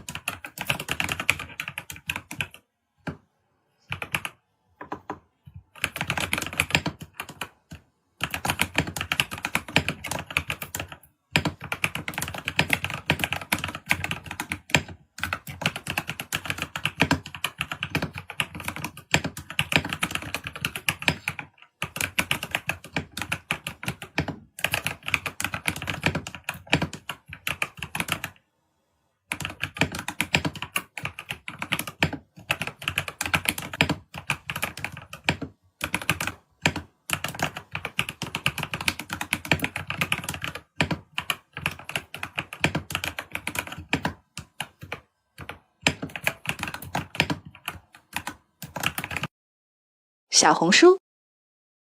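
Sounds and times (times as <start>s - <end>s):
fast typing on keyboard: 0.0s - 28.5s, 29.2s - 49.3s.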